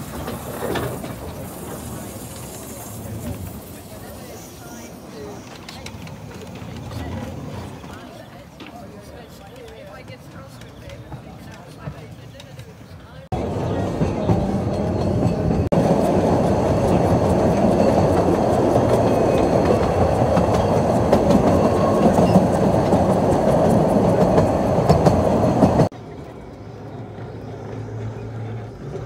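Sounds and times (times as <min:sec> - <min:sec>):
train wheels rushing on rails: 0:00.0 - 0:29.0.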